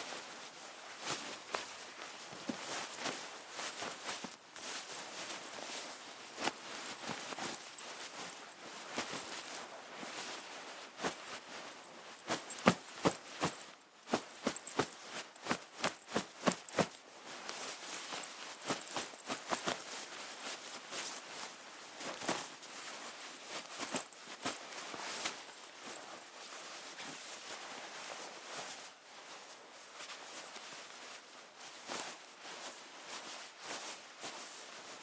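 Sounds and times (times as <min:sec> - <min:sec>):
coat fabric rustling: 0:00.1 - 0:35.0.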